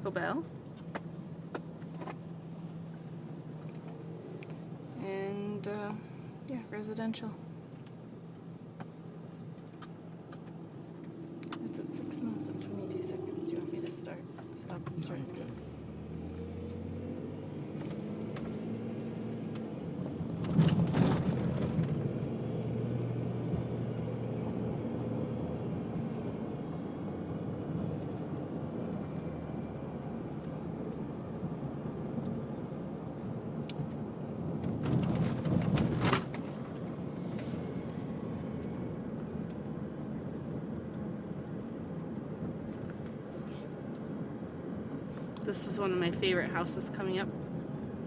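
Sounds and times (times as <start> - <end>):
vehicle engine and road noise: 0.0 - 48.0.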